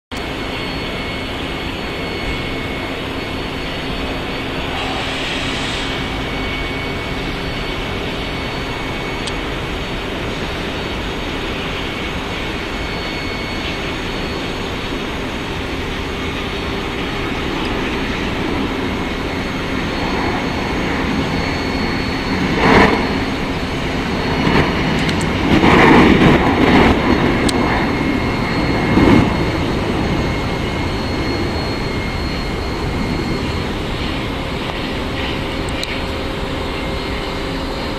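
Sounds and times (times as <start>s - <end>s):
jet engines running: 0.1s - 37.9s.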